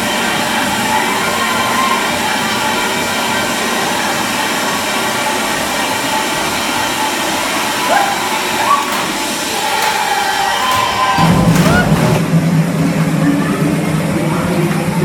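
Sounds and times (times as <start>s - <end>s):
aerobics music: 0.0s - 12.9s
people moving in a room: 0.0s - 15.0s.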